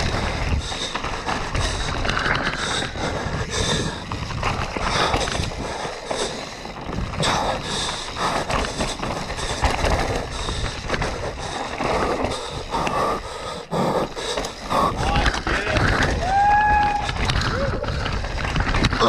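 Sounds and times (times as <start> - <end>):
wind buffeting microphone: 0.0 - 13.3, 14.0 - 19.0
bike rattling over bumps: 0.0 - 19.0
tyres on loose dirt: 0.0 - 19.0.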